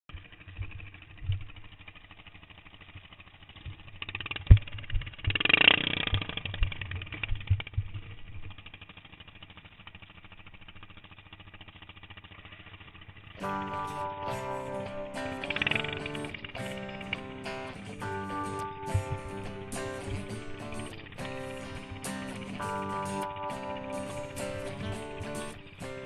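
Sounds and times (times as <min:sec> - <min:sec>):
lawn mower engine running: 0:00.1 - 0:26.0.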